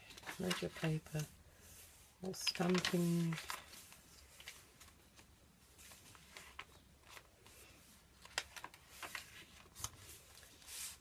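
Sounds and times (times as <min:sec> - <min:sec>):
paper pages rustling: 0:00.0 - 0:01.3, 0:02.3 - 0:11.0.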